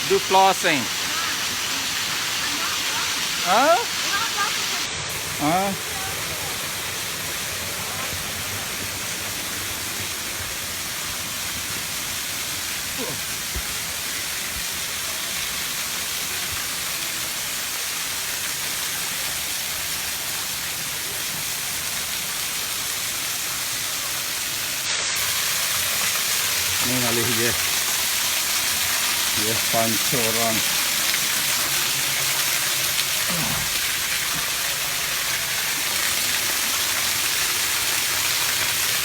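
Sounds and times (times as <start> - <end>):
water rushing over a spillway: 0.0 - 39.0.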